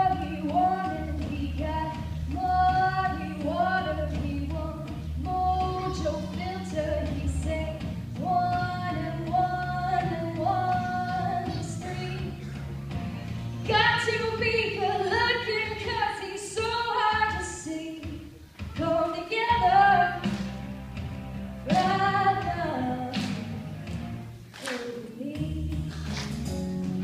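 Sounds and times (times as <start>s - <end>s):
girl singing into microphone: 0.0s - 12.6s, 13.6s - 20.4s, 21.7s - 23.4s, 24.6s - 26.2s
instrumental accompaniment: 0.0s - 16.0s, 18.0s - 27.0s.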